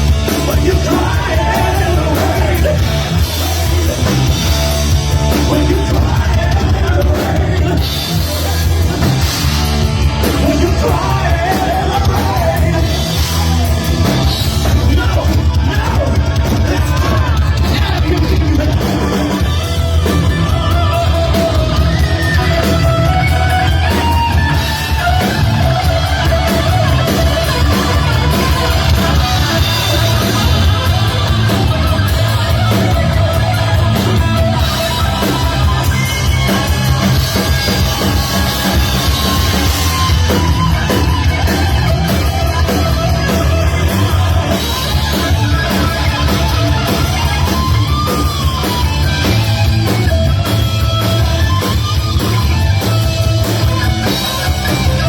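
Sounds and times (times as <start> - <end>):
bass guitar: 0.0 - 55.0
drums: 0.0 - 55.0
electric guitar lead line: 0.0 - 55.0.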